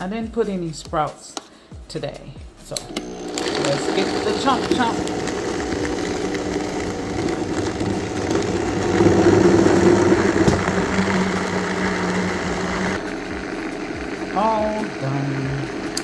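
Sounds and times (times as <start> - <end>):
blender motor chopping greens: 2.7 - 16.0.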